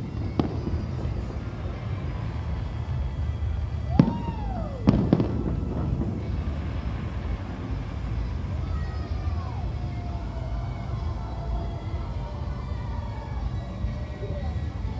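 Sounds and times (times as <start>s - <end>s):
fireworks banging: 0.0s - 12.2s
steady low rumble: 0.0s - 14.9s.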